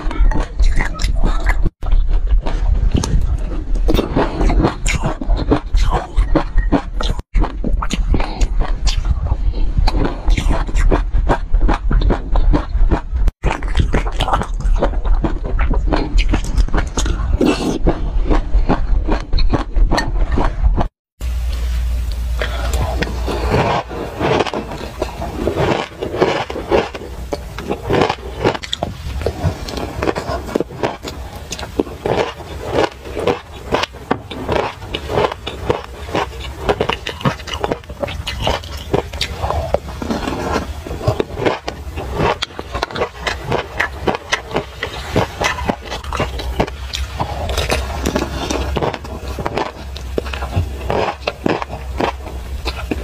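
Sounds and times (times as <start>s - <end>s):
crunching seeds: 0.0s - 53.0s.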